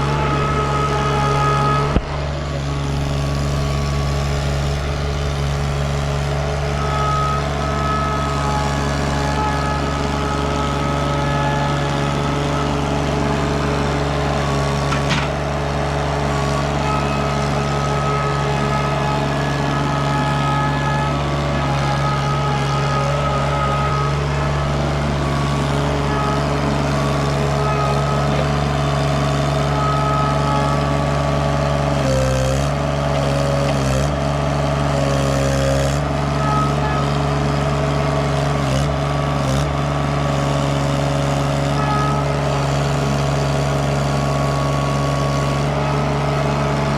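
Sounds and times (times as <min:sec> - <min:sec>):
skid steer engine running: 0:00.0 - 0:46.9.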